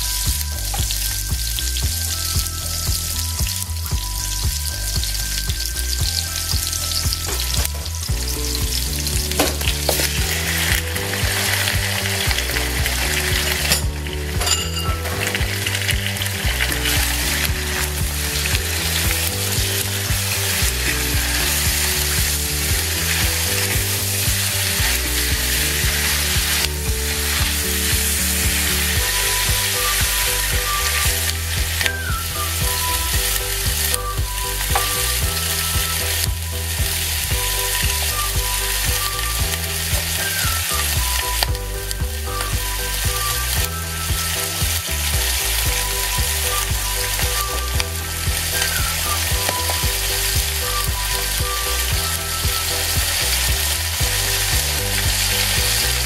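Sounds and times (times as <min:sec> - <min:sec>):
chicken sizzling in a pan: 0:00.0 - 0:56.0.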